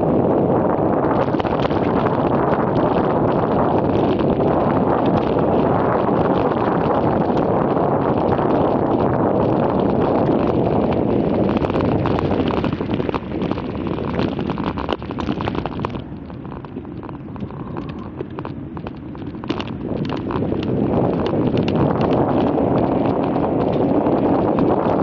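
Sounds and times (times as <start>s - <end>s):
sharp clicks and rattles: 0.0s - 25.0s
wind buffeting microphone: 0.0s - 25.0s.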